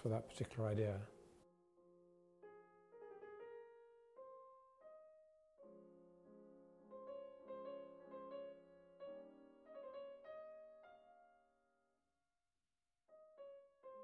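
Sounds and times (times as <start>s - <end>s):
soft piano music: 0.0s - 12.1s, 13.1s - 14.0s.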